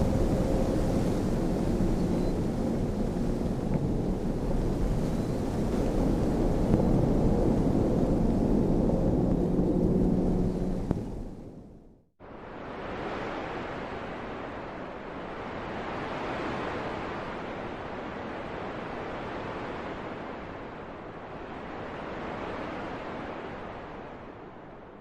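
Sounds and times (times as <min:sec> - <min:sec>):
wind blowing: 0:00.0 - 0:25.0.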